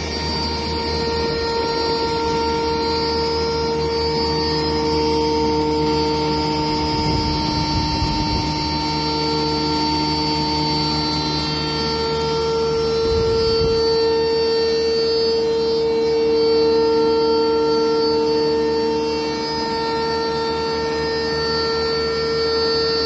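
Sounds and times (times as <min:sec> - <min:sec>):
electric flour mill grinding: 0:00.0 - 0:23.0.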